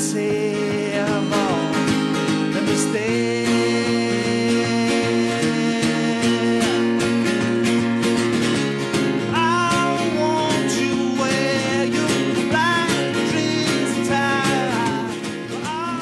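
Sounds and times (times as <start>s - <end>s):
man singing: 0.0s - 7.7s, 9.3s - 16.0s
acoustic guitar strumming: 0.0s - 16.0s.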